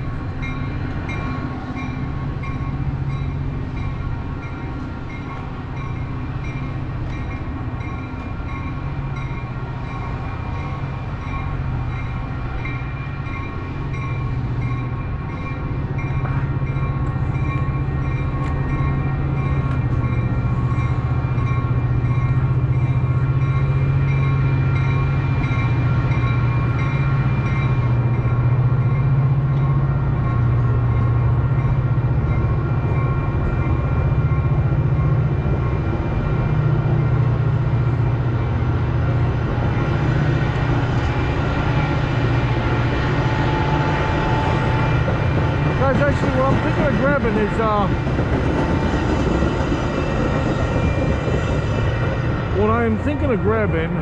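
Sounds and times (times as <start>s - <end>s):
crossing warning bell ringing: 0.0s - 54.0s
train running drone: 0.0s - 54.0s.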